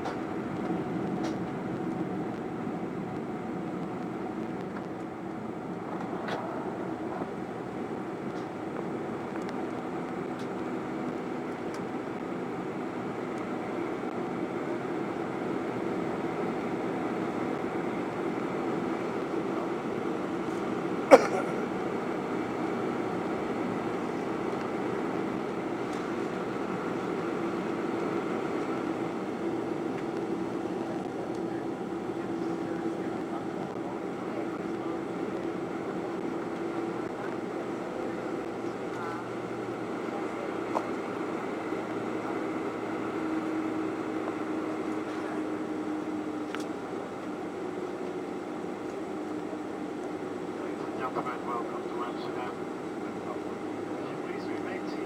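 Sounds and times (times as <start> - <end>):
jet engines rushing: 0.0 - 55.0.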